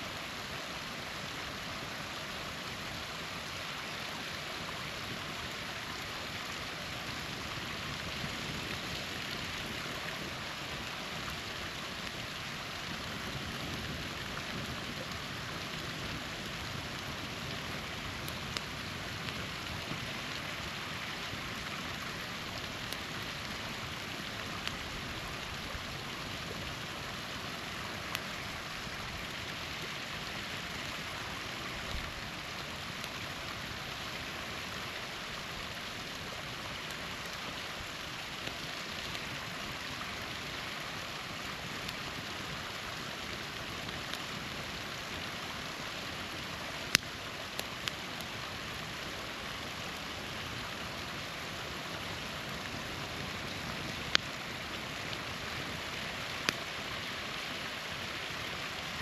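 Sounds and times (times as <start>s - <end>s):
small waterfall rushing: 0.0s - 59.0s
campfire crackling: 0.1s - 59.0s.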